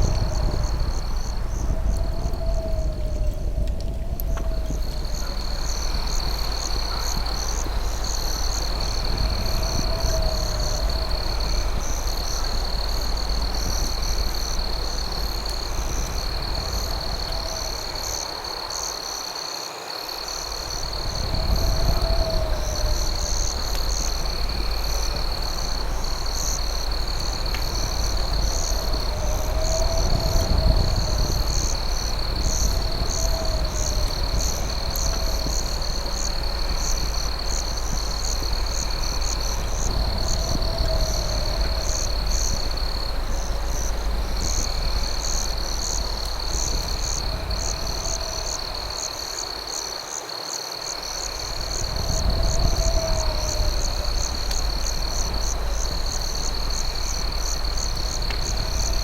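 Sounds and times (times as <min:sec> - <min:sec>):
steady low rumble: 0:00.0 - 0:18.8, 0:20.4 - 0:49.5, 0:51.2 - 0:59.0
crickets trilling: 0:00.0 - 0:59.0.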